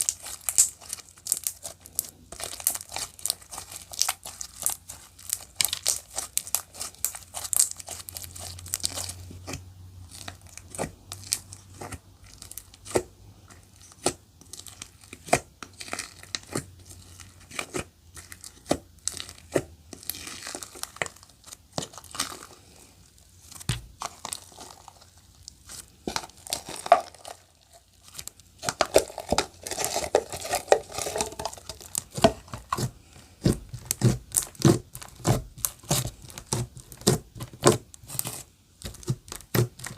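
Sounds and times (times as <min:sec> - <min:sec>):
slime squishing with crackling pops: 0:00.0 - 0:22.6, 0:23.4 - 0:39.9.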